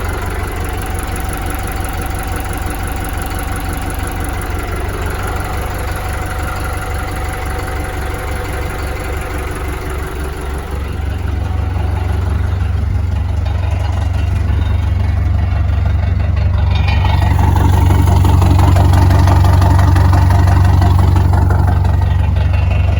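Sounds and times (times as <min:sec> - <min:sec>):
boat engine running: 0:00.0 - 0:22.9.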